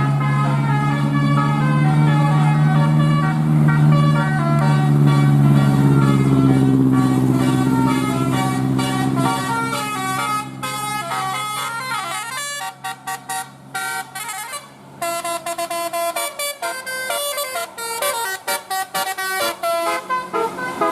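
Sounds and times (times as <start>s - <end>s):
musical bus horn tune: 0.0s - 20.9s.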